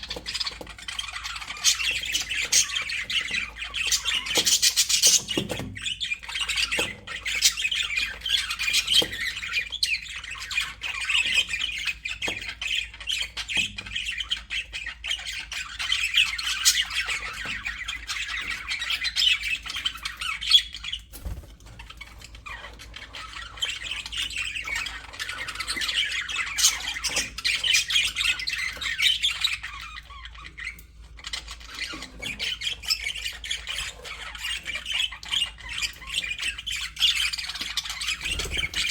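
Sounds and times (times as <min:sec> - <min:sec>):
budgerigars chattering: 0:00.0 - 0:21.1, 0:22.3 - 0:38.9.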